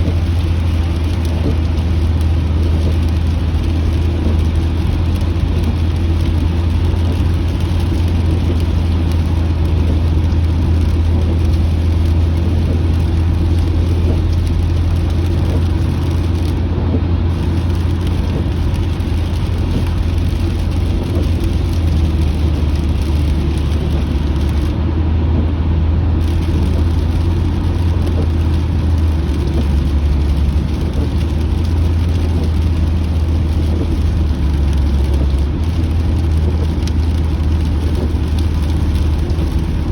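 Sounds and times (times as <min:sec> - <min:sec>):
hiss of rain and wet road: 0:00.0 - 0:39.9
low road drone in car cabin: 0:00.0 - 0:39.9.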